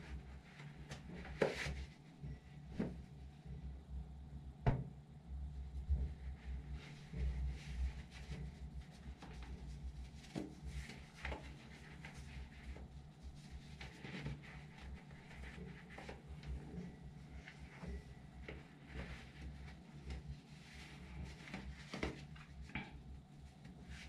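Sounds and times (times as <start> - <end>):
faint rustling of socks: 0.0 - 3.8, 5.5 - 24.0.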